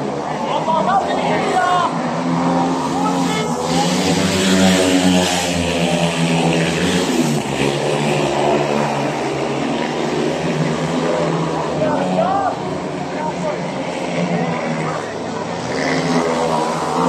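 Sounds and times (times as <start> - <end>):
motorcycle engines racing: 0.0 - 17.0.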